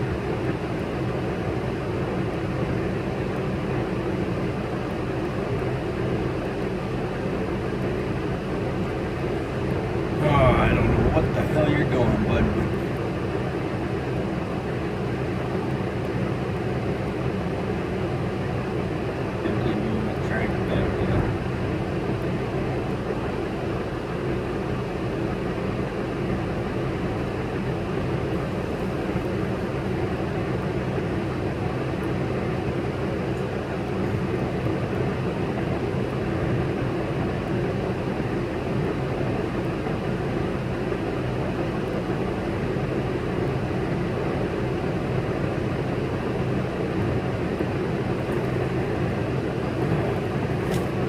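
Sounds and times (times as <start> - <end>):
diesel truck engine idling: 0.0 - 51.0.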